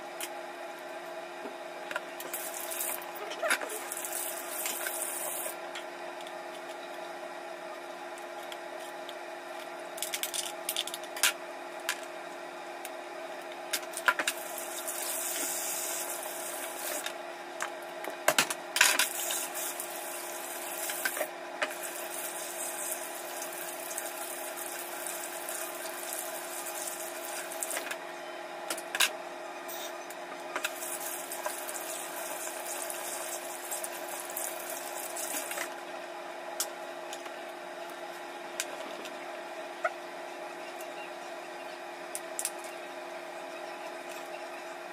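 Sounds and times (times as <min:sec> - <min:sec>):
steady background hum: 0:00.0 - 0:44.9.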